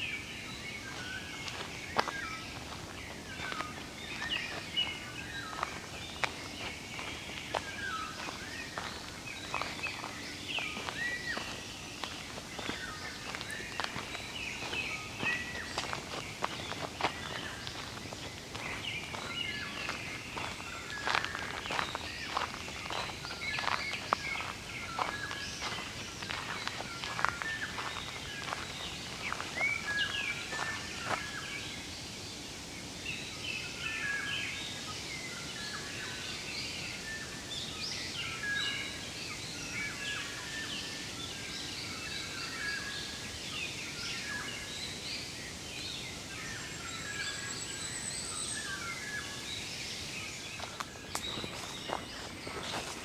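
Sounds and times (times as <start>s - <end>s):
wild birds chirping: 0.0s - 53.0s.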